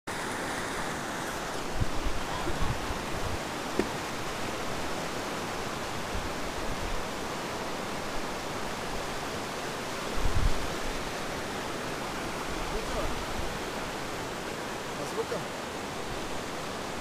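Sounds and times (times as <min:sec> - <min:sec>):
river rushing over rocks: 0:00.1 - 0:17.0.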